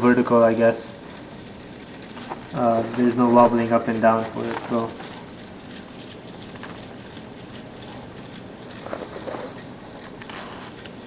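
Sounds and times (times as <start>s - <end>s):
toy gyroscope whirring: 0.0s - 11.0s.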